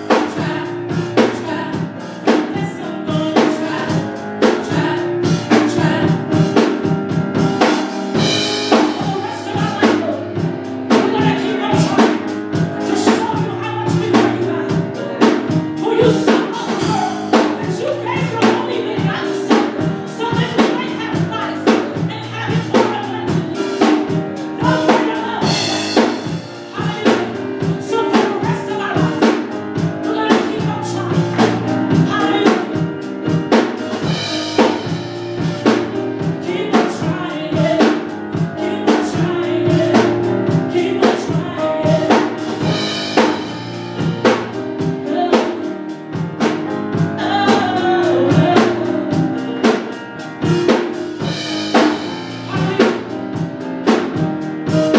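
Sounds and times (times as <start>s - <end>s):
person singing: 0.0s - 6.9s, 8.2s - 53.7s
drum kit steady beat: 0.0s - 54.9s.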